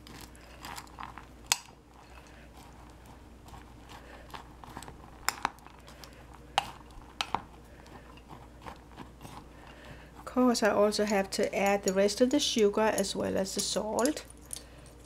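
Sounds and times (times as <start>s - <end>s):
spoon scraping dry mix: 0.0s - 14.2s.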